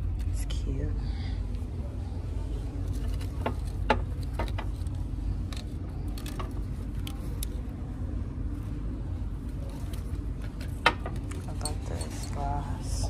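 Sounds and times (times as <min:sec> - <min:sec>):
shop background rumble: 0:00.0 - 0:13.0.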